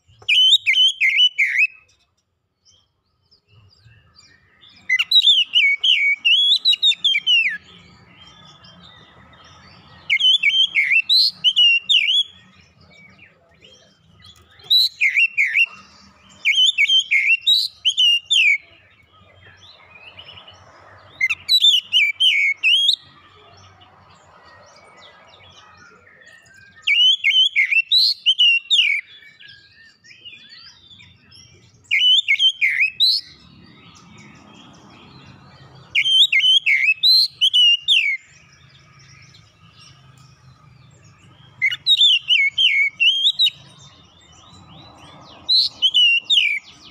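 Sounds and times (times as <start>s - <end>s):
bird whistling and chirping: 0.0s - 2.0s, 3.5s - 23.2s, 24.9s - 40.2s, 41.0s - 46.9s.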